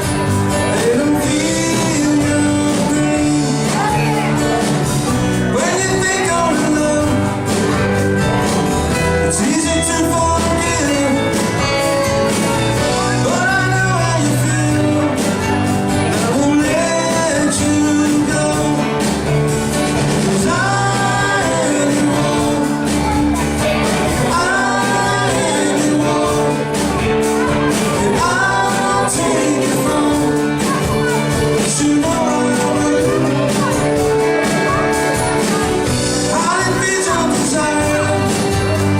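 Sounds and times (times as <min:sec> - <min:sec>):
live rock band: 0:00.0 - 0:38.9
person singing: 0:00.0 - 0:38.9.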